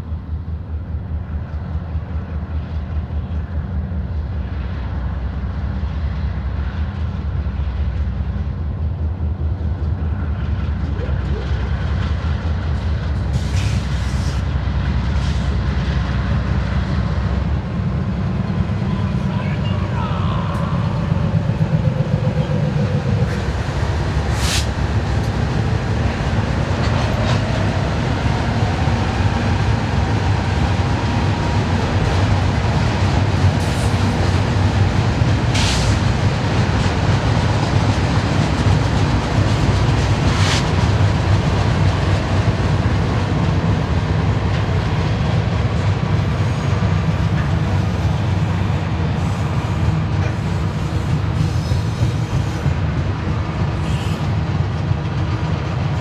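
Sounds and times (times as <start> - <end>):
diesel locomotives under load: 0.0 - 56.0
freight cars rumbling over rails: 0.0 - 56.0.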